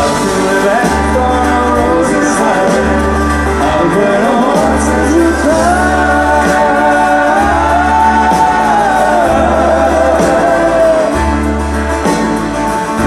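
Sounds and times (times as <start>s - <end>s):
bass line: 0.0s - 13.0s
guitar: 0.0s - 13.0s.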